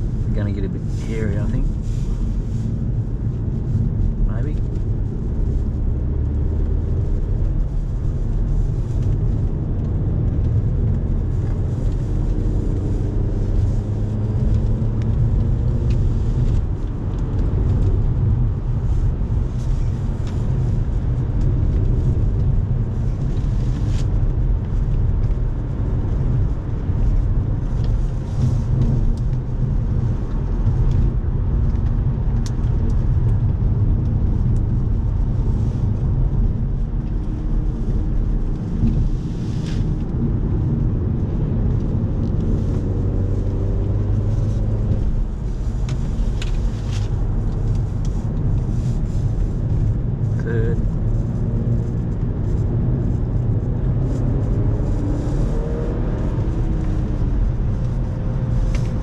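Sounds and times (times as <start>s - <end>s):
car engine running hard: 0.0s - 59.0s
tyre and road rumble: 0.0s - 59.0s.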